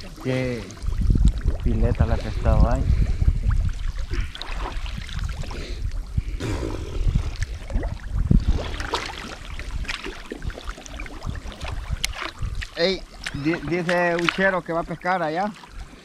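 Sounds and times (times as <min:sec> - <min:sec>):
shallow water sloshing: 0:00.0 - 0:16.0.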